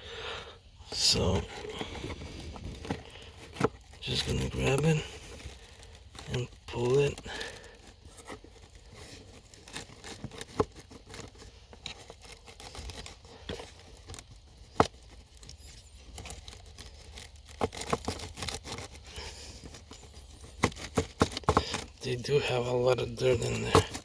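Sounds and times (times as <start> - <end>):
filter scraping against plastic: 0.9 - 24.0.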